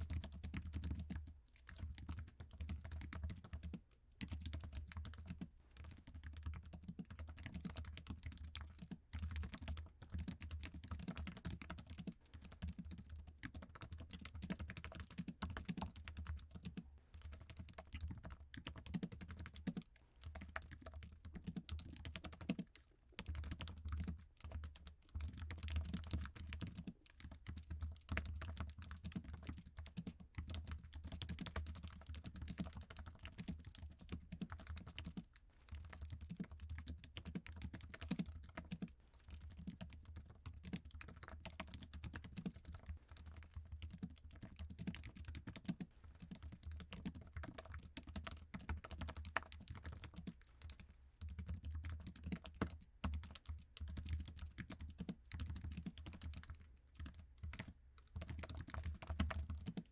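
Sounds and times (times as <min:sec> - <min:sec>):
keyboard typing: 0:00.0 - 0:59.9.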